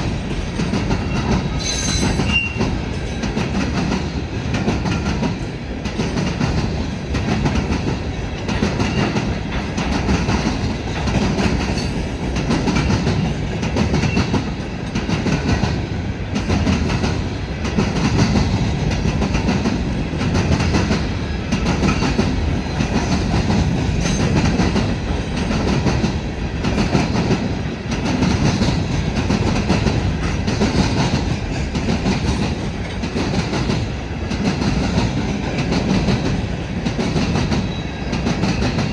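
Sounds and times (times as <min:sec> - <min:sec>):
train wheels clattering over joints: 0:00.0 - 0:38.9.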